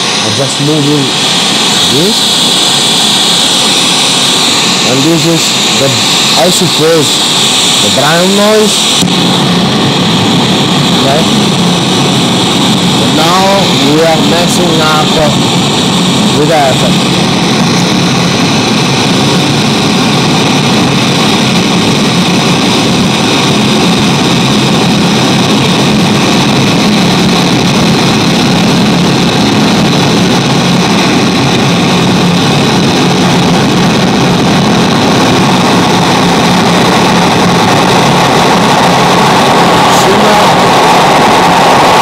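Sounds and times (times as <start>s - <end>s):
loud continuous noise hiss: 0.0s - 42.0s.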